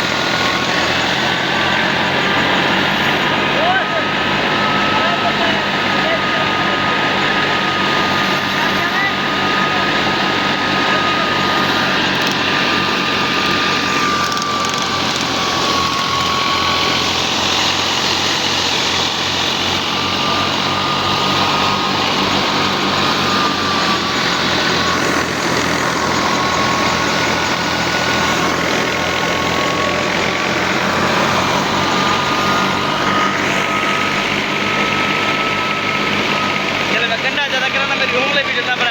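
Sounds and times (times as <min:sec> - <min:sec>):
thin machine whine: 0:00.0 - 0:38.9
tractor and thresher din: 0:00.0 - 0:38.9.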